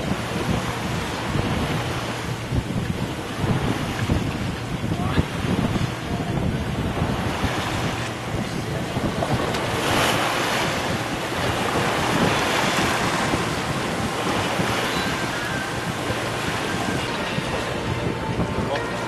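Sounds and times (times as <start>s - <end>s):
water rushing along hull: 0.0s - 19.0s
wind buffeting microphone: 0.0s - 19.0s.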